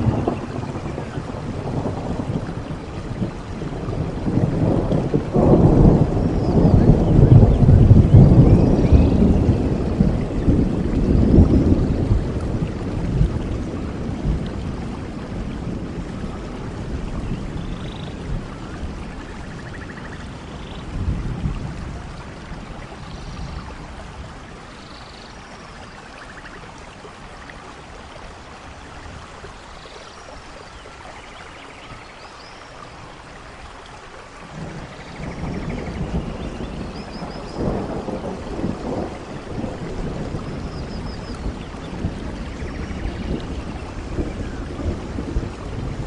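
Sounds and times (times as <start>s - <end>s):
low thunder rumbles: 0.0s - 30.4s, 34.2s - 46.0s
rain on leaves: 0.0s - 46.0s.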